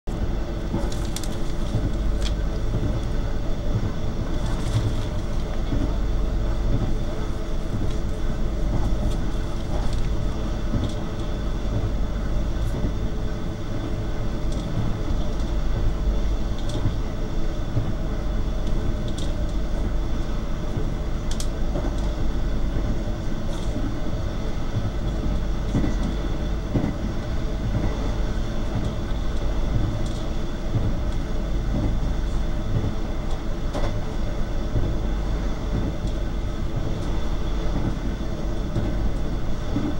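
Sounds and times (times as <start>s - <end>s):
steady hum: 0.1s - 39.9s
train wheels on rails: 0.1s - 39.9s.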